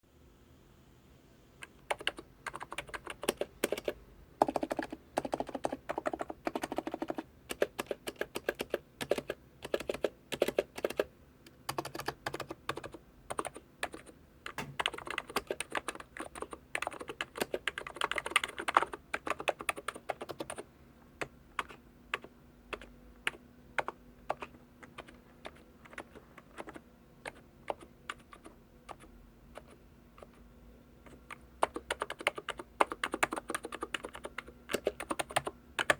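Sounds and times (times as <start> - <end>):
keyboard typing: 1.6 - 11.1, 11.7 - 20.6, 21.2 - 30.4, 31.0 - 35.9.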